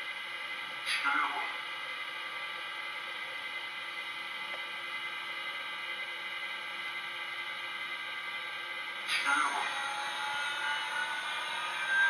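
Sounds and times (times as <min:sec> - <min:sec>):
faint many-toned hum: 0:00.0 - 0:12.0.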